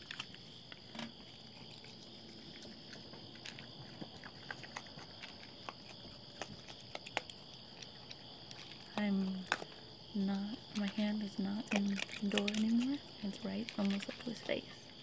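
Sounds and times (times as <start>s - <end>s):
animals crunching dry food: 0.0s - 15.0s
night insects chirring: 0.0s - 15.0s.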